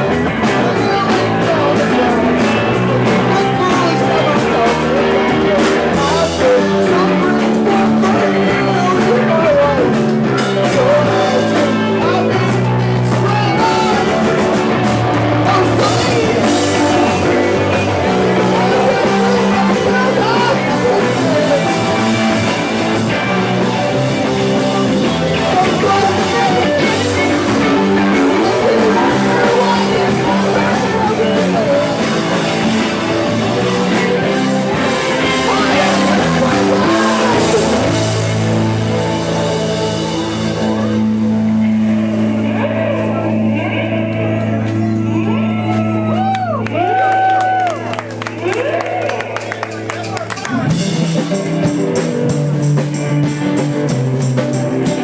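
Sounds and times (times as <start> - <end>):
person singing: 0.0 - 47.1
live rock music with guitar: 0.0 - 55.0.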